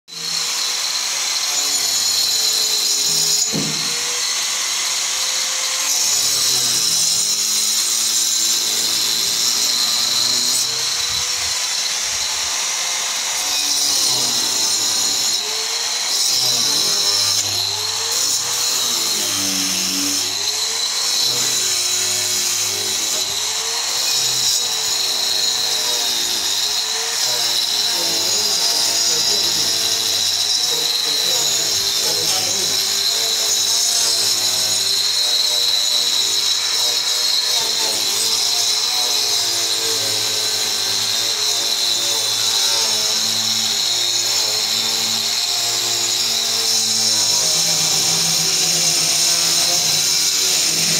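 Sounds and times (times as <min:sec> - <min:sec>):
angle grinder cutting: 0:00.1 - 0:50.9.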